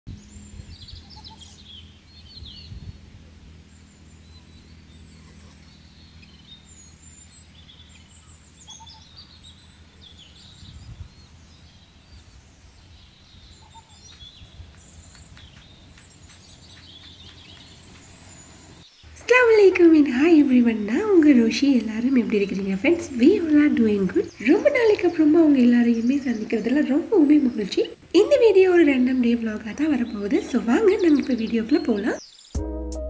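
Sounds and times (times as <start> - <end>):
low outdoor background noise: 0.1 - 32.6
small birds chirping: 0.1 - 32.6.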